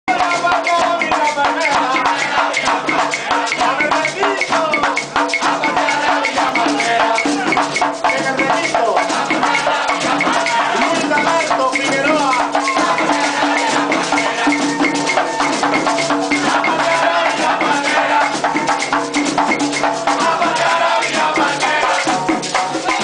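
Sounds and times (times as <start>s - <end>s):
frame drums beating fast rhythm: 0.1s - 23.0s
men singing: 0.1s - 23.0s.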